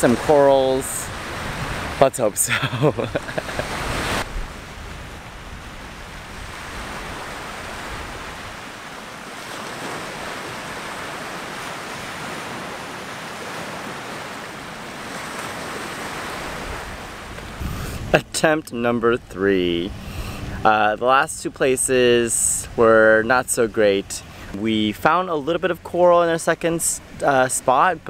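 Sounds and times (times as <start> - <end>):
small waves washing onto beach: 0.0 - 28.0
wind: 0.0 - 28.0.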